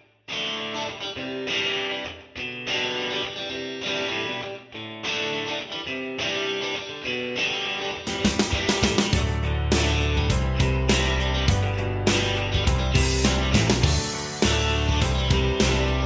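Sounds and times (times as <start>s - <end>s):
plucked guitar music: 0.0s - 16.0s.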